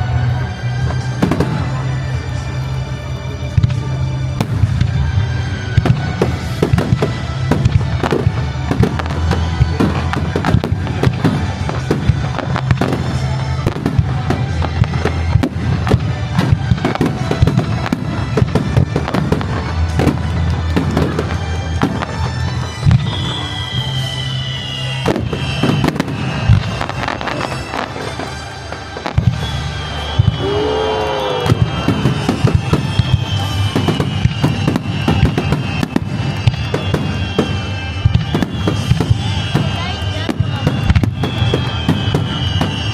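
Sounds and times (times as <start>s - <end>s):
fireworks bangs and crackling: 0.0s - 42.9s
music playing: 0.0s - 42.9s.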